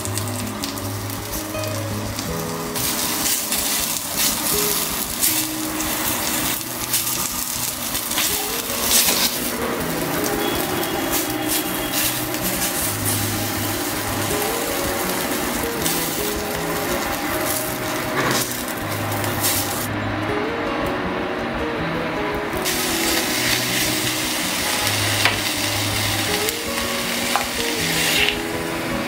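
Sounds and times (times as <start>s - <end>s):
meat sizzling in hot oil: 0.0s - 19.9s, 22.6s - 28.8s
background music: 0.0s - 29.0s.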